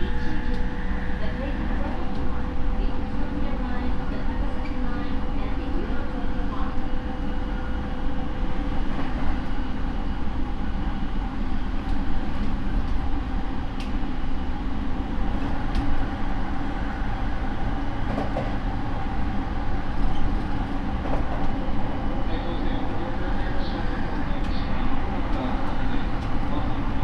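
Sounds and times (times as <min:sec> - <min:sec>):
electric train interior hum: 0:00.0 - 0:27.0.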